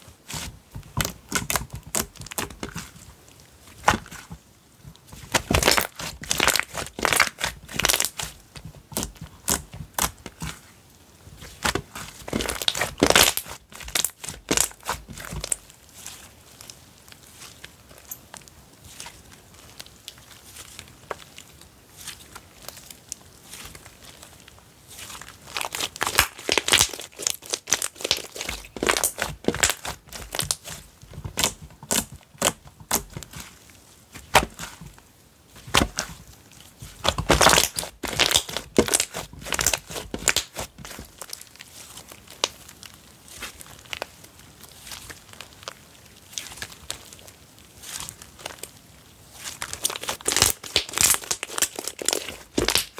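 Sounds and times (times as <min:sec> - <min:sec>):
slime squished crackling: 0:00.0 - 0:04.4, 0:05.0 - 0:10.7, 0:11.4 - 0:18.2, 0:18.9 - 0:52.9.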